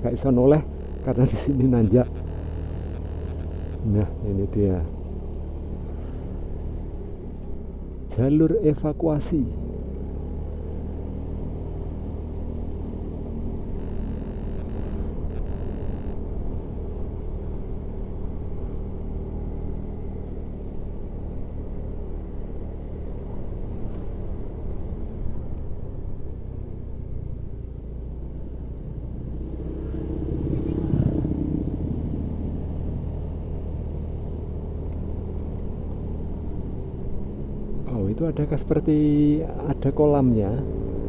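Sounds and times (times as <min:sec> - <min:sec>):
road noise: 0:00.0 - 0:41.0
vehicle engine drone: 0:00.0 - 0:41.0.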